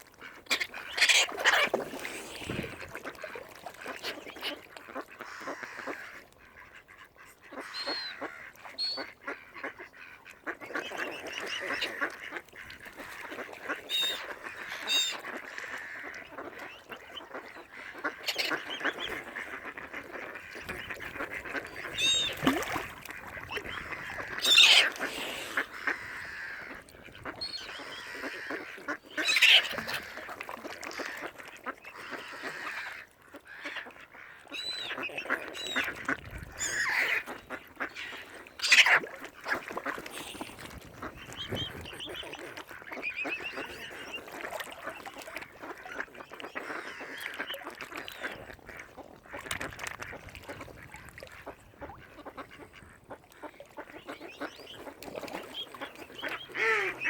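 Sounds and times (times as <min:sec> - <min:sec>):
waterfowl loud calls: 0:00.2 - 0:57.0.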